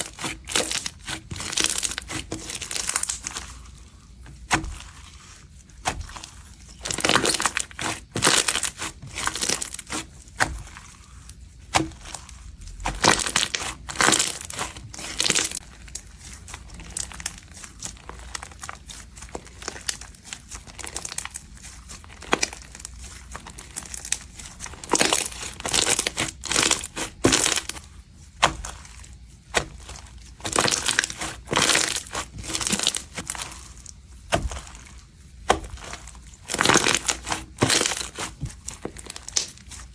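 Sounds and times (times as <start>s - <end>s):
slime crackling and crunching: 0.0s - 39.9s.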